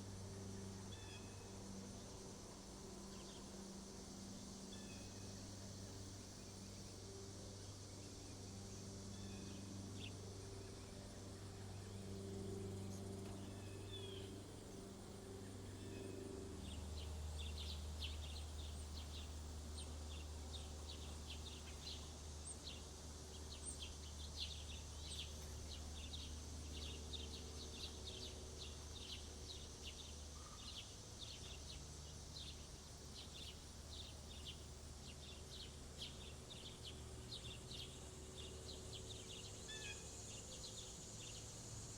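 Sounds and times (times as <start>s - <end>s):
faint low hum: 0.0s - 41.9s.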